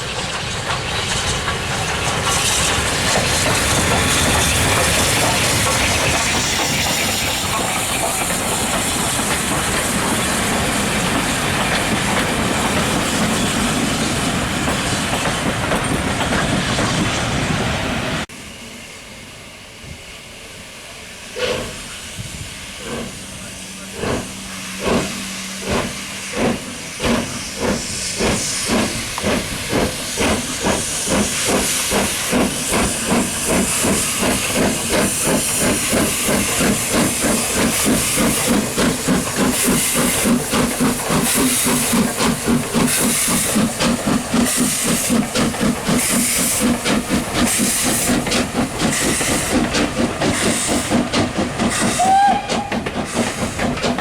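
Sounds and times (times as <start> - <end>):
steam locomotive exhaust chuffs: 0.0 - 17.6, 18.2 - 54.0
steam hissing: 0.0 - 54.0.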